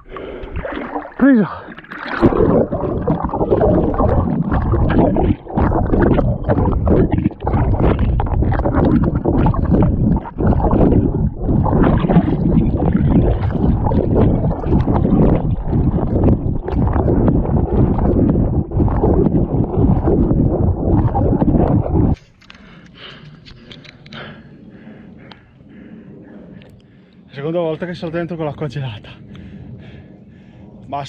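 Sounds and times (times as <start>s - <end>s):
water splashing and sloshing: 0.0s - 26.5s.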